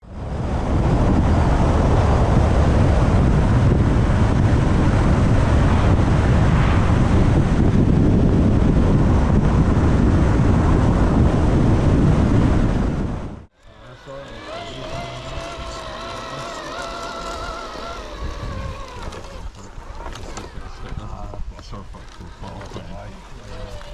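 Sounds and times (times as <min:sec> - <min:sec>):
wind buffeting microphone: 0:00.1 - 0:23.9.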